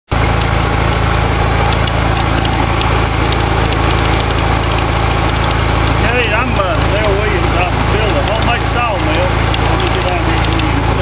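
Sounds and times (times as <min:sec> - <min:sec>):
small sawmill engine running: 0:00.1 - 0:11.0.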